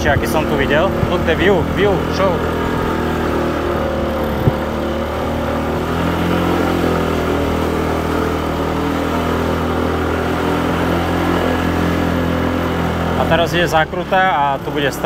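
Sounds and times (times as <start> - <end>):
motorbike engine running: 0.0 - 15.0.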